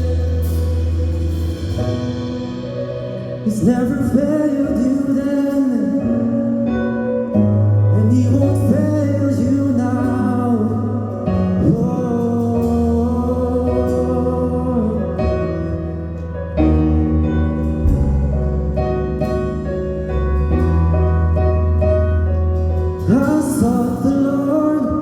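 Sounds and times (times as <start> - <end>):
person singing: 0.0 - 20.7, 23.0 - 25.0
deep bass notes: 0.0 - 25.0
keyboard chords: 0.0 - 25.0.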